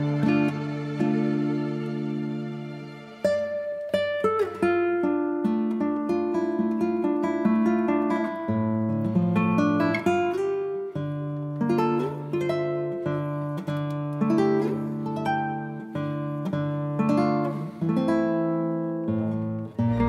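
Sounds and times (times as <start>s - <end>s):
plucked string instrumental music: 0.0s - 20.0s.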